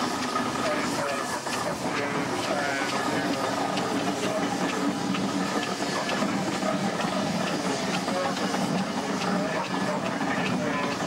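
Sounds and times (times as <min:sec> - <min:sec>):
steam engine hissing: 0:00.0 - 0:11.0.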